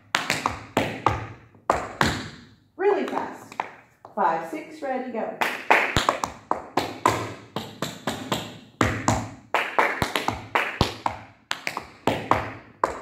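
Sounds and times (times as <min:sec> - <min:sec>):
tap shoes clicking on hard floor: 0:00.0 - 0:02.4, 0:03.0 - 0:04.2, 0:06.0 - 0:13.0.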